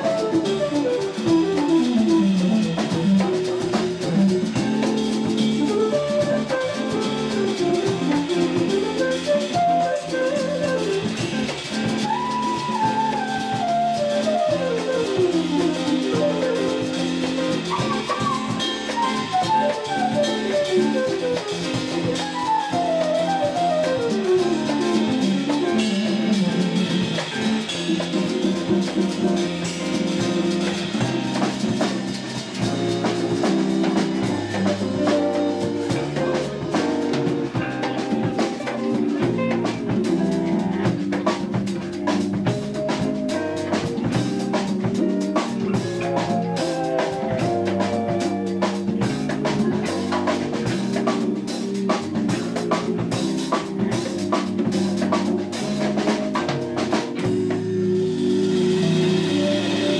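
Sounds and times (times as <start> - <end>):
busy drums: 0.0 - 59.9
jazz band playing: 0.0 - 59.9
moving bass line: 0.0 - 59.9
quick falling run of notes: 0.0 - 59.9.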